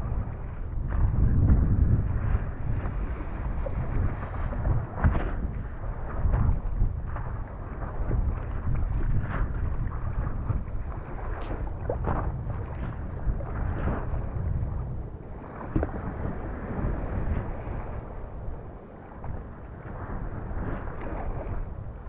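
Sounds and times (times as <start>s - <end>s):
steady low rumble: 0.0s - 22.0s
water splashing against paddleboard: 0.0s - 22.0s
wind buffeting microphone: 0.0s - 22.0s.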